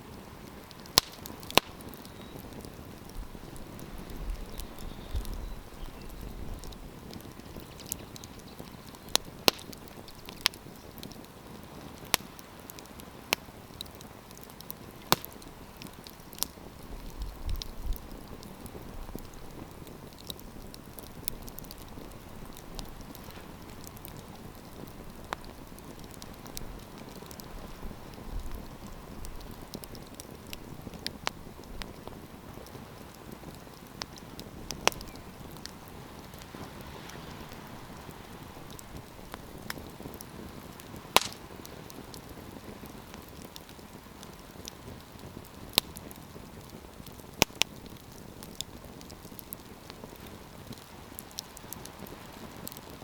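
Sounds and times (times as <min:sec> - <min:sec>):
campfire crackling: 0:00.0 - 0:53.0
sharp pops of burning logs: 0:00.1 - 0:53.0.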